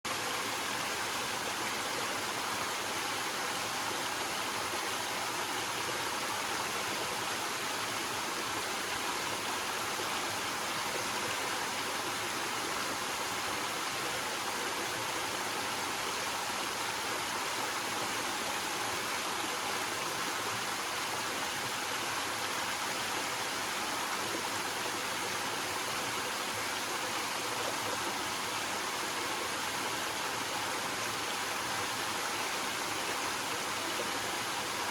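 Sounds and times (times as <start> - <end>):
water cascading over rocks: 0.1 - 34.9.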